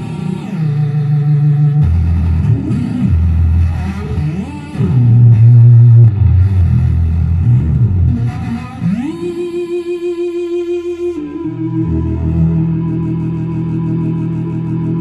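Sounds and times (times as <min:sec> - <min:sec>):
fretless bass notes and slides: 0:00.0 - 0:15.0.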